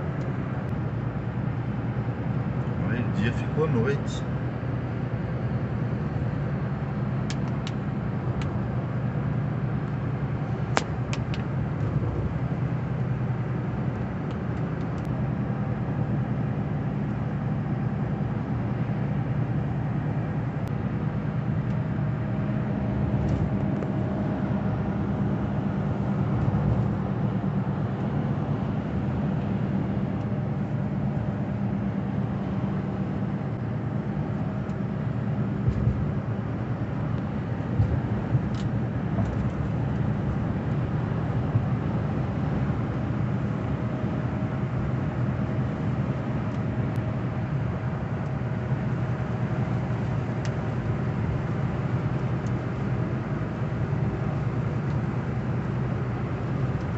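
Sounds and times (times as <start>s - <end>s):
car road and engine hum: 0.0s - 56.9s.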